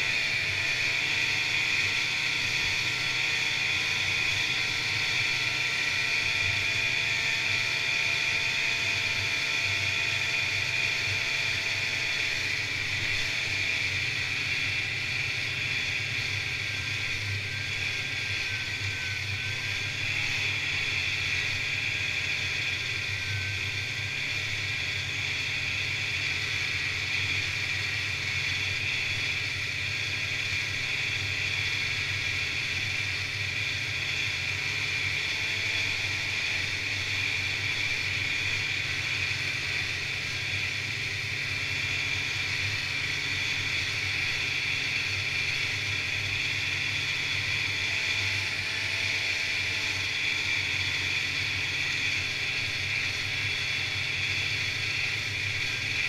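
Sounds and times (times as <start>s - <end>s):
snowmobile engine drone: 0.0s - 56.0s.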